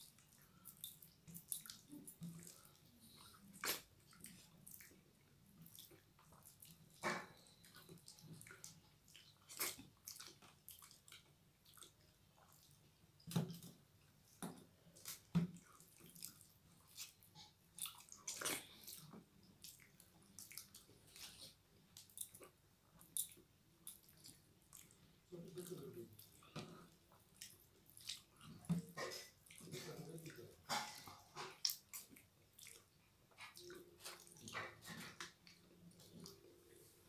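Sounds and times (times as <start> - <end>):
chewing: 0.0 - 37.0.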